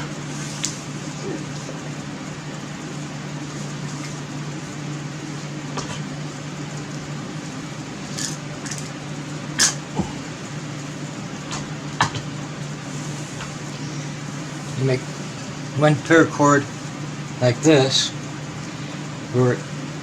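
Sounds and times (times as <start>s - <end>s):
fan humming: 0.0s - 20.0s.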